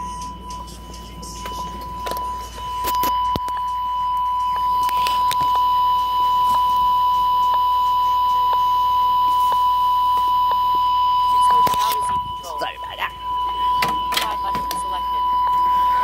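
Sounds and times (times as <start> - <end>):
high-pitched toy beep tone: 0.0 - 16.0.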